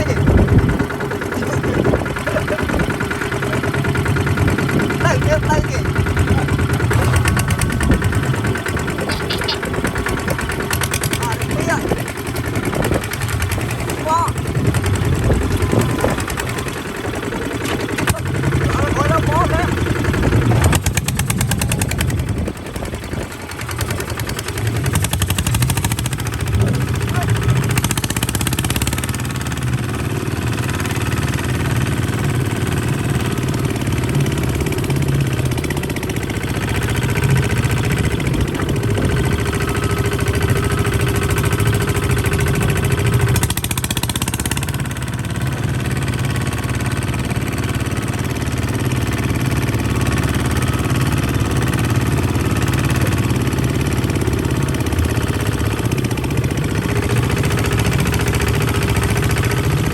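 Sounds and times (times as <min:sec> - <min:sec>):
tractor diesel engine knocking: 0:00.0 - 0:59.9.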